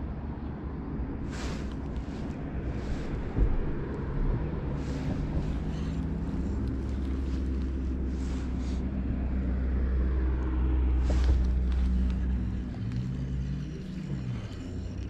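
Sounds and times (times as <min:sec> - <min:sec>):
traffic engine rumble: 0:00.0 - 0:15.0.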